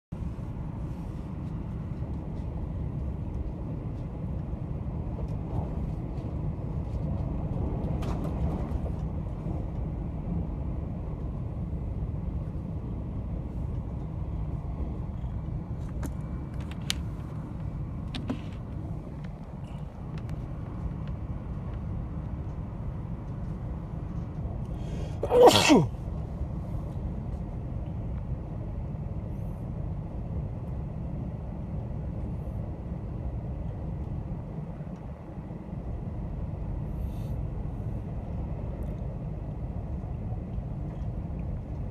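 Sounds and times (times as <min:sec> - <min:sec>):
train rumble inside passenger car: 0:00.1 - 0:41.9.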